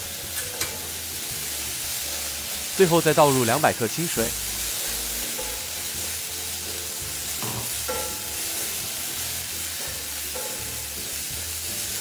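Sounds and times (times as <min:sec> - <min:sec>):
sauce sizzling and bubbling in wok: 0:00.0 - 0:12.0.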